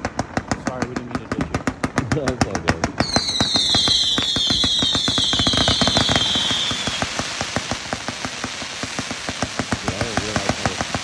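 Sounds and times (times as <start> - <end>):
firework rapid popping: 0.0 - 11.0
firework whistling: 1.6 - 11.0.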